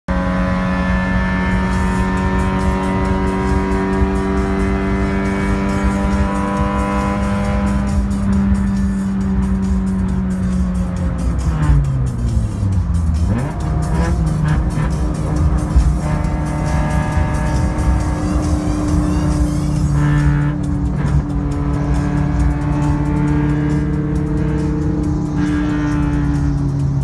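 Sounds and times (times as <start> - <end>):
car engine droning at high revs: 0.0 - 27.0.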